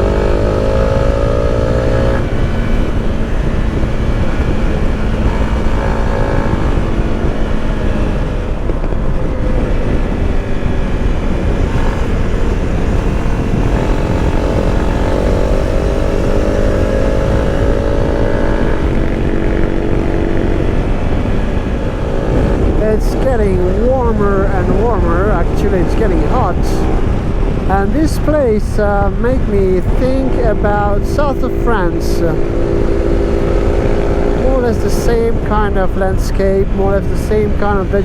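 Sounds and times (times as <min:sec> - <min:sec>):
motorcycle engine running: 0:00.0 - 0:38.0
wind rush on microphone: 0:00.0 - 0:38.0.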